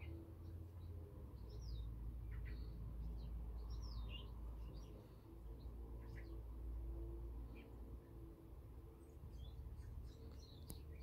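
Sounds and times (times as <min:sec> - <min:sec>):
birds singing: 0:00.0 - 0:06.6, 0:07.4 - 0:08.3, 0:08.9 - 0:11.0.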